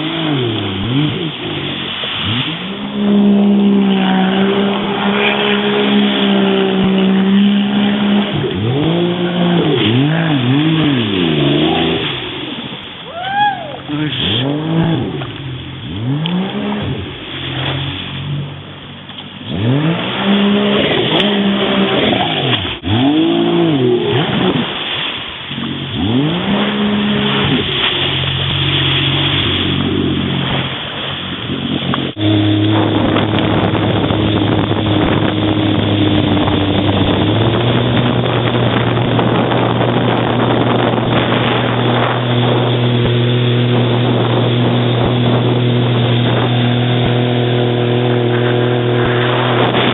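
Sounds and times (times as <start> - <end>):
jet ski engine revving: 0.0 - 49.9.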